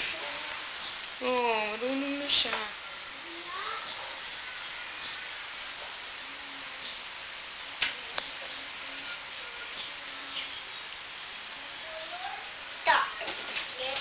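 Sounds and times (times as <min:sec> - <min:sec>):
room noise hiss: 0:00.0 - 0:14.0.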